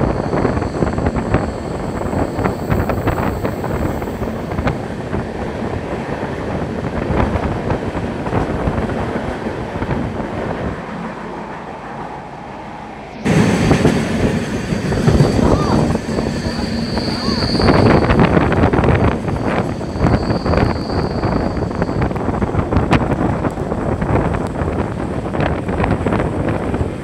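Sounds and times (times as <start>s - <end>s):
wind on microphone: 0.0s - 11.1s, 12.0s - 27.0s
train wheels rumbling over rails: 0.0s - 12.6s, 13.2s - 27.0s.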